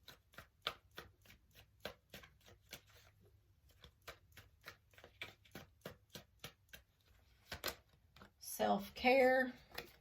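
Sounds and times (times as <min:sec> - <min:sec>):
cards being shuffled: 0:00.0 - 0:08.4, 0:09.6 - 0:10.0.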